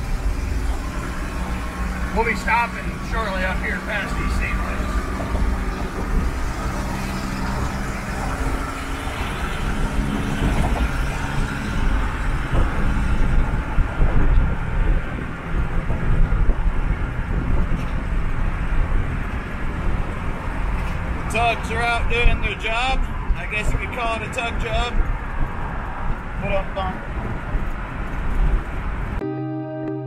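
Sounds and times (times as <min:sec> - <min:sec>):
engine and tyre rumble: 0:00.0 - 0:29.2
wind buffeting through windows: 0:00.0 - 0:29.2.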